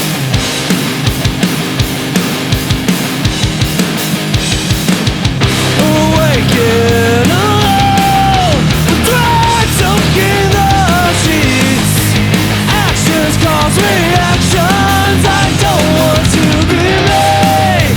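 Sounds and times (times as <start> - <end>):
punk rock band playing: 0.0 - 17.9.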